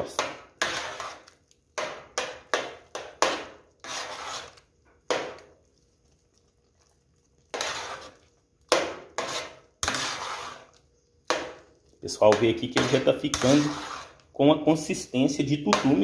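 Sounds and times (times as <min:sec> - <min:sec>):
metal spoon scraping a pot: 0:00.0 - 0:05.5, 0:07.4 - 0:16.0.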